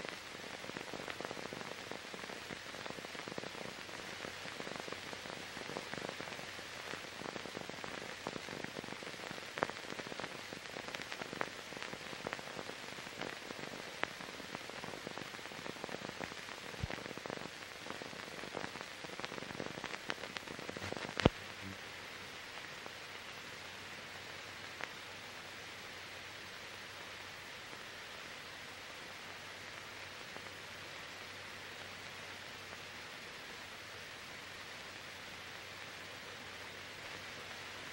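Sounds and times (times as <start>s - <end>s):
crackles and pops: 0.0s - 37.9s
film soundtrack hiss: 0.0s - 37.9s.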